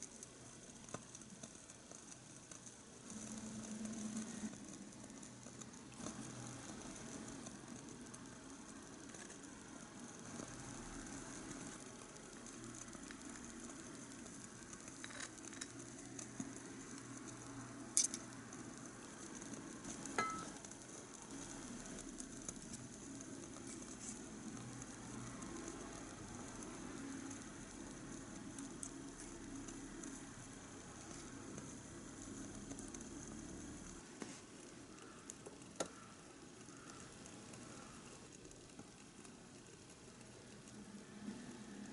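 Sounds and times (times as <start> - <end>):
soup simmering with faint sizzle: 0.0 - 41.9.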